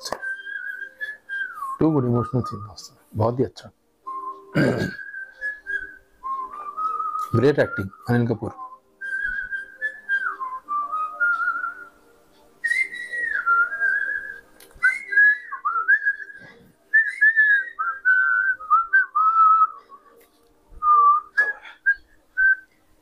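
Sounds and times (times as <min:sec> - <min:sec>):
person whistling melody: 0:00.0 - 0:03.0, 0:04.0 - 0:22.8.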